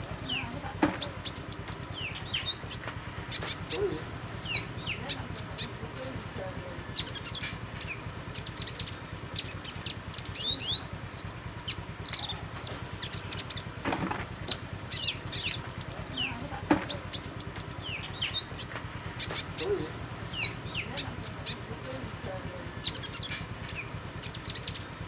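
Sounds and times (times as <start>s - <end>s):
bird chirping: 0.0s - 13.8s, 14.4s - 25.0s
steady low hum: 0.0s - 25.0s.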